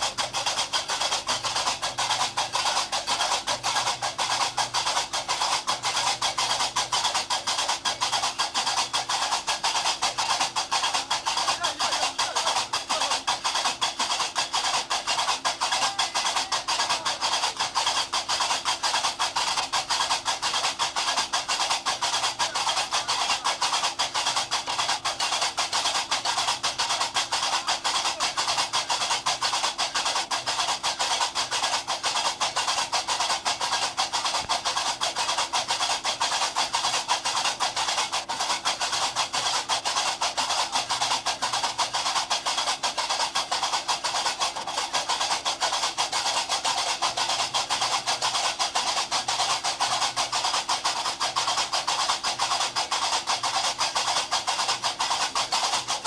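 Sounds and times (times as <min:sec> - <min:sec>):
iron castanets clacking: 0:00.0 - 0:56.0.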